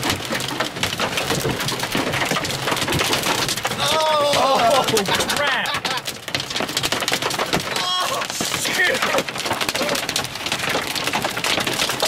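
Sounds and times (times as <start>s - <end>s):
hail pelting a vehicle: 0.0s - 12.0s
heavy rain: 0.0s - 12.0s.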